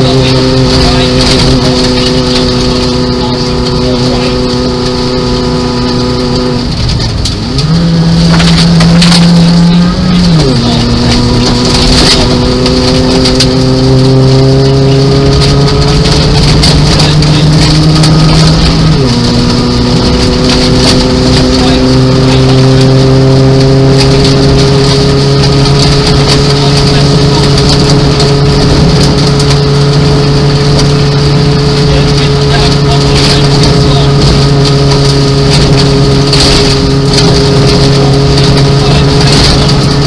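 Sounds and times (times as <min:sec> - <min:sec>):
gravel clattering on car underside: 0:00.0 - 0:40.0
rally car engine revving: 0:00.0 - 0:40.0.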